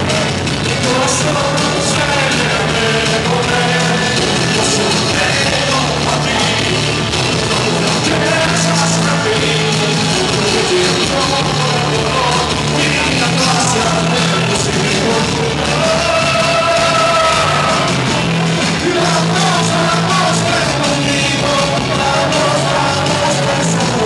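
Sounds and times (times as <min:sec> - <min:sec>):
bass line: 0:00.0 - 0:24.0
loud rock band playing: 0:00.0 - 0:24.0
man singing into a microphone: 0:00.0 - 0:24.0.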